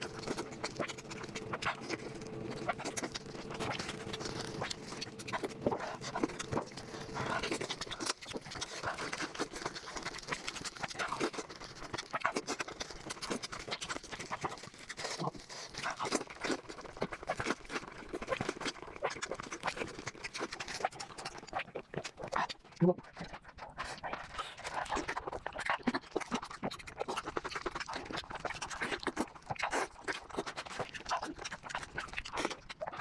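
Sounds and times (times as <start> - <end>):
chewing and mouth noises: 0.0 - 33.0.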